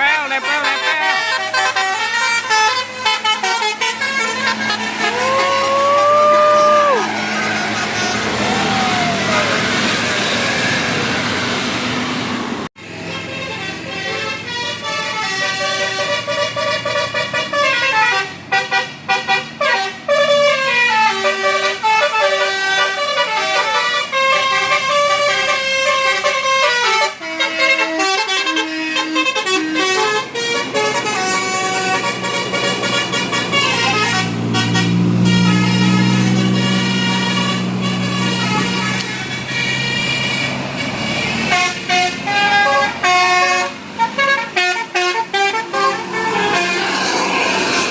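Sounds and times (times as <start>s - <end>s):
multi-tone bus horn melody: 0.0s - 47.9s.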